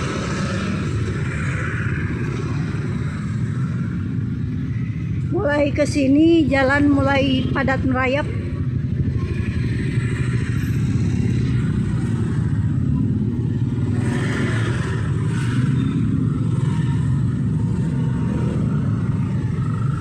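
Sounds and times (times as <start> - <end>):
motorcycle and car traffic rumble: 0.0 - 20.0.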